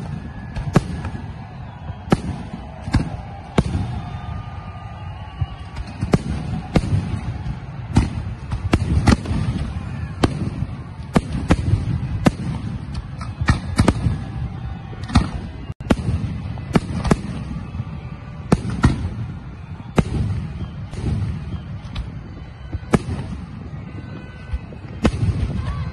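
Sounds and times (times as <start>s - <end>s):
fireworks bangs: 0.0s - 25.9s.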